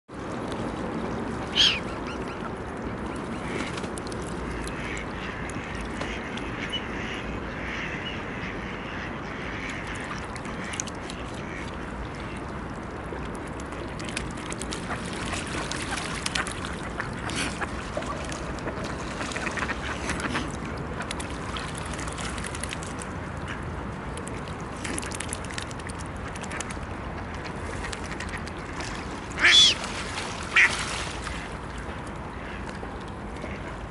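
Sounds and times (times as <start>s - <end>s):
small splashes and clicks: 0.2s - 1.3s, 2.4s - 6.7s, 9.6s - 33.9s
swans dabbling in water: 0.2s - 33.9s.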